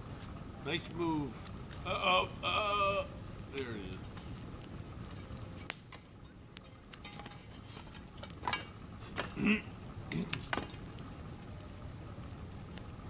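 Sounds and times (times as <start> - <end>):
bonfire crackling and popping: 0.0 - 13.0
crickets trilling: 0.0 - 13.0.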